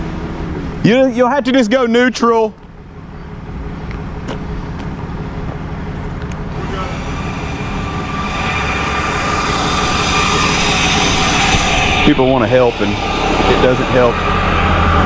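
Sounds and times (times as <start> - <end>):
mechanical whine: 0.0 - 15.0
truck engine running: 0.0 - 15.0
winch pulling under load: 2.5 - 15.0.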